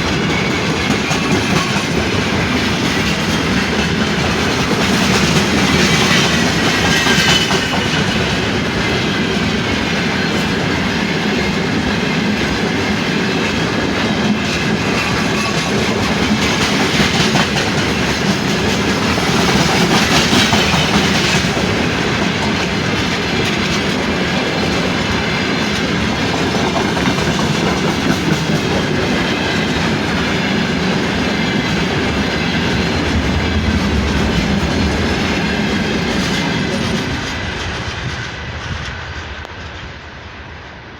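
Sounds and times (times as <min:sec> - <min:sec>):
train wheels clattering on rails: 0:00.0 - 0:40.8.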